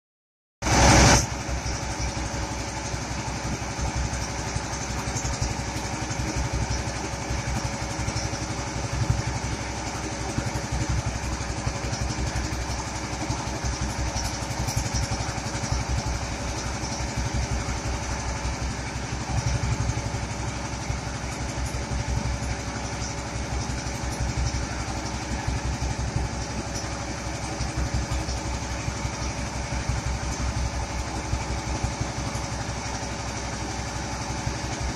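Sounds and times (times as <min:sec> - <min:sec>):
thresher engine pulsing: 0:00.6 - 0:34.9
spinning drum humming: 0:00.7 - 0:34.9.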